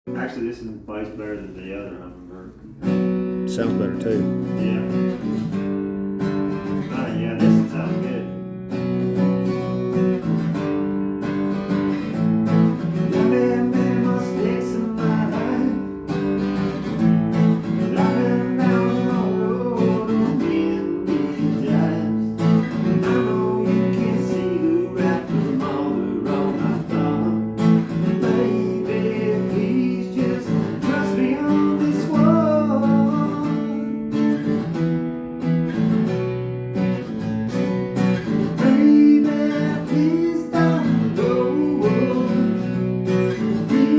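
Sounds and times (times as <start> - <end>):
acoustic guitar strumming: 2.4 - 43.9.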